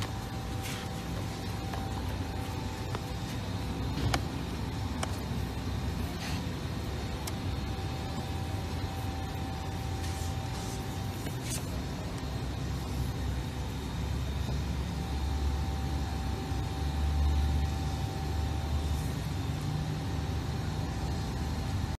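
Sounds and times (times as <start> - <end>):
faint constant hum: 0.0 - 22.0.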